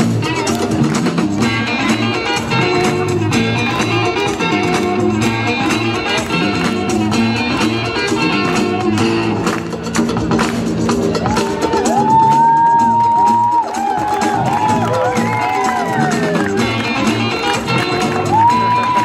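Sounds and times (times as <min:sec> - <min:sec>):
loud music over loudspeakers: 0:00.0 - 0:19.0.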